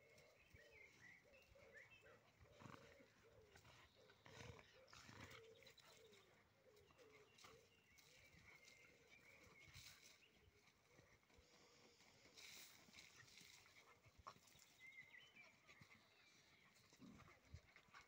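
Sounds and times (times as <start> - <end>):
dogs growling: 0.0 - 18.0.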